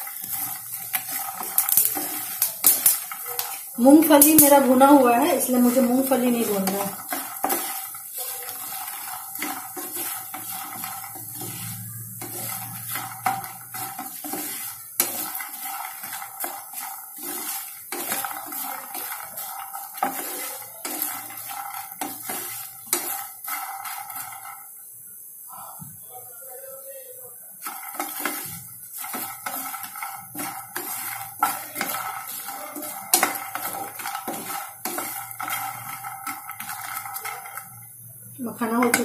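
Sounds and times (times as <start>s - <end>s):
seeds knocking against pan: 0.0s - 24.7s, 27.6s - 38.0s, 38.6s - 39.0s
spatula scraping a pan: 0.0s - 24.8s, 27.6s - 39.0s.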